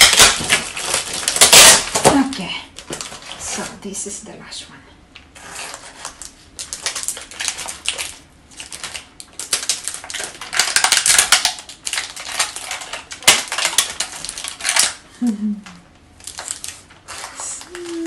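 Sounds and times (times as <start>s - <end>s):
plastic sleeve crinkling: 0.0s - 3.8s, 5.3s - 15.4s, 16.2s - 18.0s.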